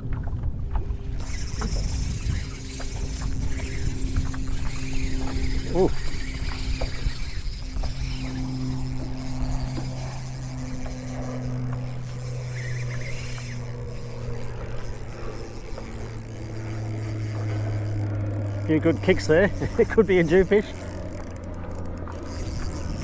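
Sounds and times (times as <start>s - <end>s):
boat motor droning: 0.0s - 23.0s
faint ticks: 0.2s - 23.0s.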